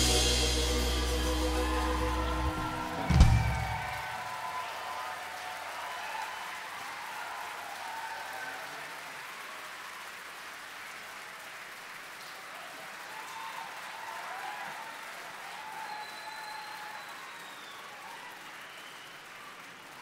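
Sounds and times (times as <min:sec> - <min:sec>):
shouts from crowd: 0:00.0 - 0:10.0, 0:12.4 - 0:20.0
audience applauding and cheering: 0:00.0 - 0:20.0.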